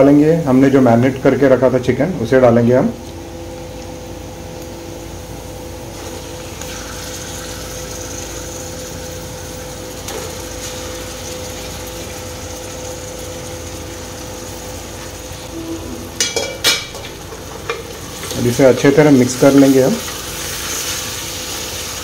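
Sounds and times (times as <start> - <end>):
steady mechanical hum: 0.0 - 22.0
faint sizzle in pot: 2.7 - 22.0.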